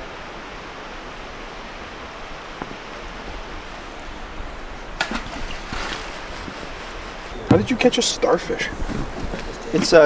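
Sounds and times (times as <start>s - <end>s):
outdoor ambient hiss by water: 0.0s - 10.0s.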